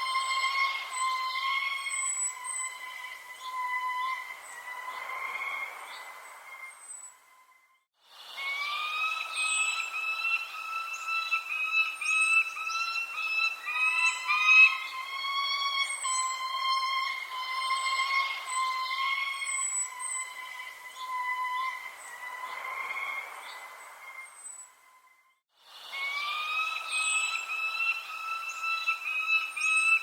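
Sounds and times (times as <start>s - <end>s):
bird chirps: 0.0s - 30.0s.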